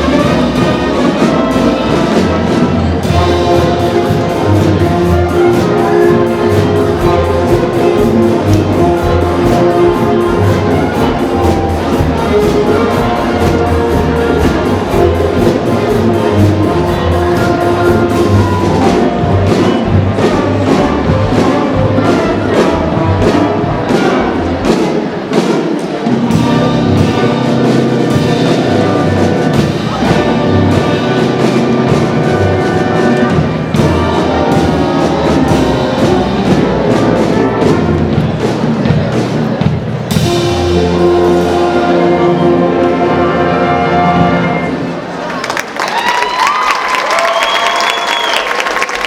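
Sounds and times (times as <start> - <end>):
driving percussion beat: 0.0 - 43.0
orchestral music with brass: 0.0 - 45.4.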